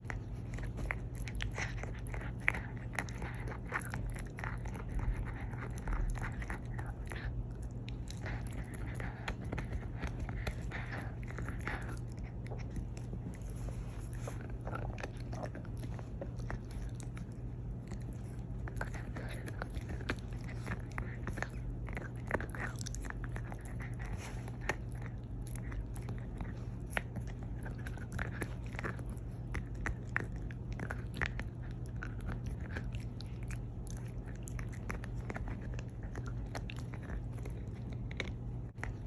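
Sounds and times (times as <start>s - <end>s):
puppy panting: 0.0s - 39.0s
puppy teeth crunching on bone: 0.0s - 39.0s.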